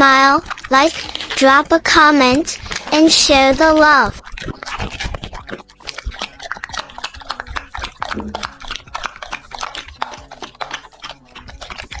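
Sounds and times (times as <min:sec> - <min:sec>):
dog chewing and crunching food: 0:00.0 - 0:12.0.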